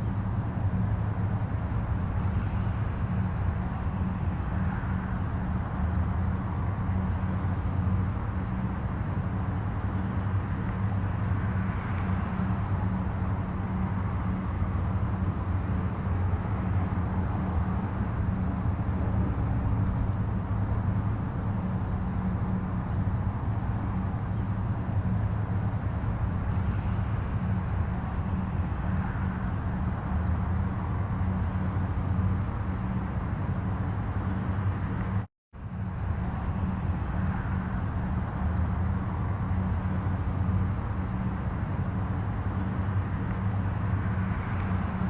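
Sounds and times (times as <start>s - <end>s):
distant highway traffic rumble: 0.0s - 45.0s.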